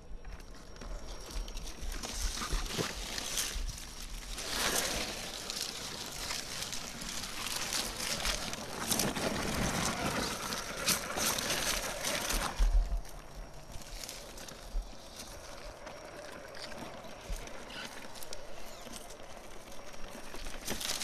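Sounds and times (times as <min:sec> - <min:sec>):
tyres crunching leaves and grit: 0:00.2 - 0:21.0.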